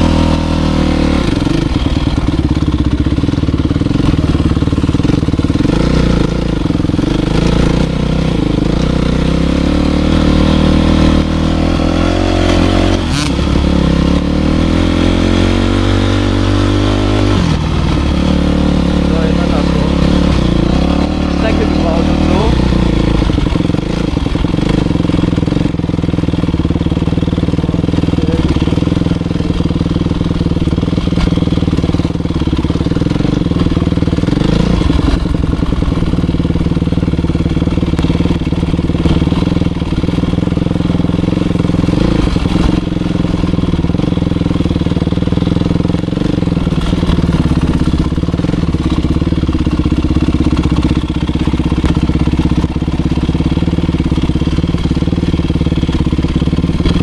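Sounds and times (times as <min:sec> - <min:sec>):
motorbike engine running: 0:00.0 - 0:57.0.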